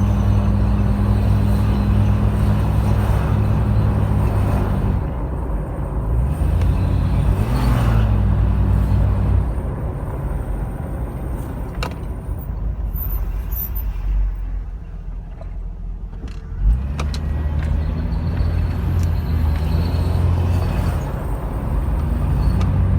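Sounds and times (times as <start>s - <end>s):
engine droning: 0.0s - 22.9s.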